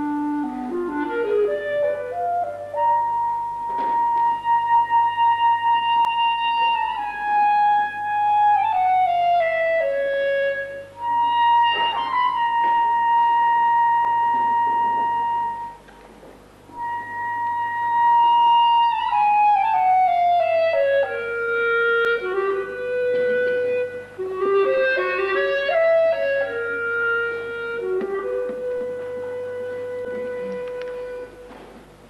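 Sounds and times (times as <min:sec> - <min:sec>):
solo clarinet melody: 0:00.0 - 0:15.9, 0:16.6 - 0:32.0.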